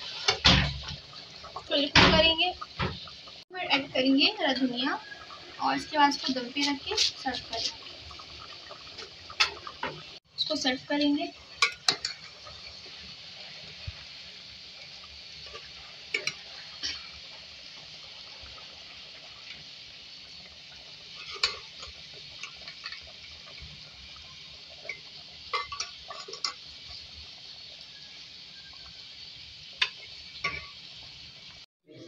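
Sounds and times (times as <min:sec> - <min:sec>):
curry bubbling in a pot: 0:00.0 - 0:31.7.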